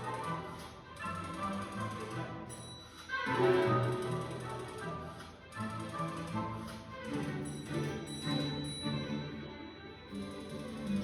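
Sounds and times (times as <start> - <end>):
orchestral music: 0.0 - 11.0.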